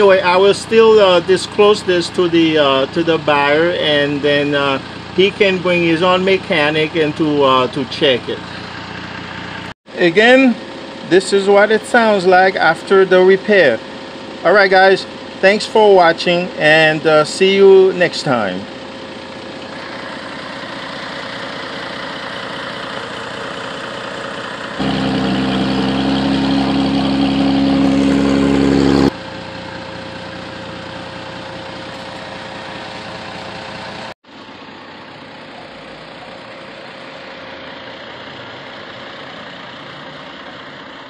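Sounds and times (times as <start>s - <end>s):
car engine idling: 0.0s - 15.4s, 18.3s - 41.0s.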